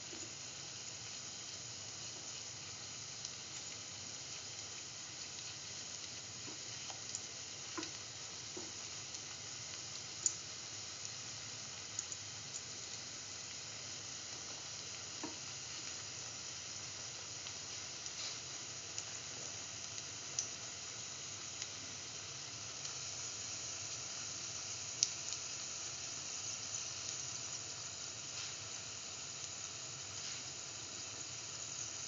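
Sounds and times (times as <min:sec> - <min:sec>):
fritters sizzling in hot oil: 0:00.0 - 0:32.0.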